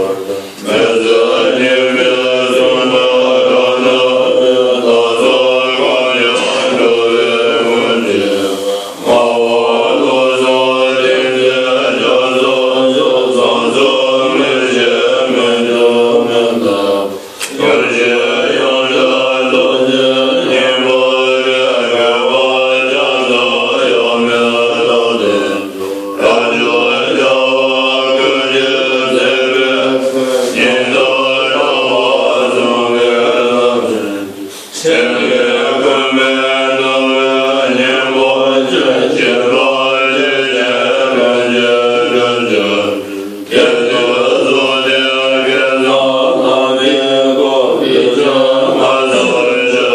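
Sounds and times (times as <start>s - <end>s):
monks chanting together: 0.0s - 49.9s.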